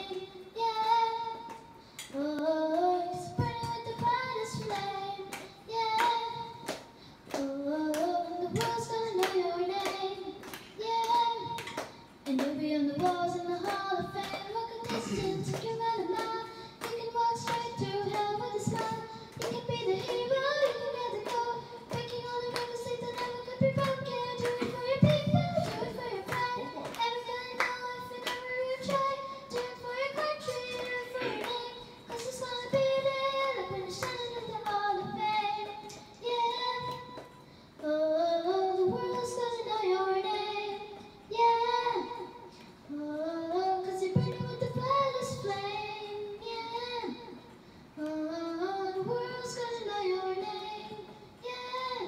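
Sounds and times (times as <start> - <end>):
girl singing into microphone: 0.0 - 52.0.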